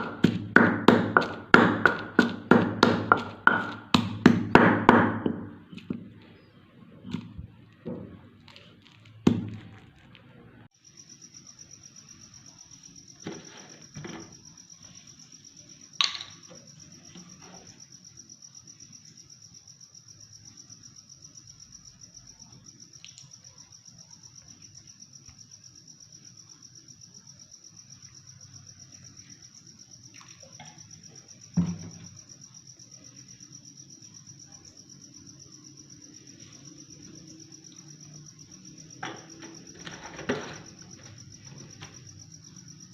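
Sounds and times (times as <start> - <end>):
cricket chirping: 0.0 - 10.0, 10.6 - 42.9.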